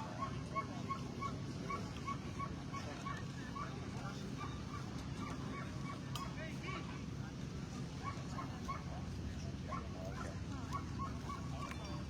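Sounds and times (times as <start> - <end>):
background hubbub: 0.0 - 12.0.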